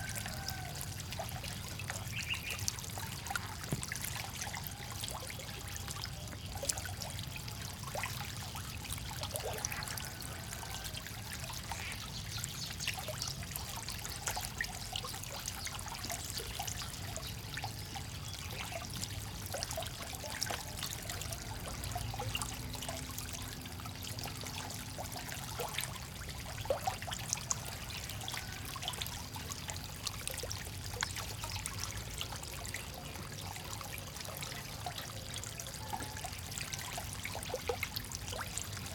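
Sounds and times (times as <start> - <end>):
frogs splashing and clicking: 0.0 - 38.9
water trickling and lapping: 0.0 - 38.9.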